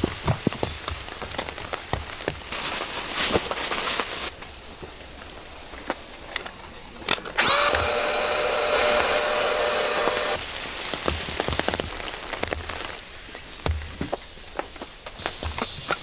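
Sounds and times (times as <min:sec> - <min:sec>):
electric air pump running: 0:00.0 - 0:14.2
light rain pattering: 0:00.0 - 0:16.0.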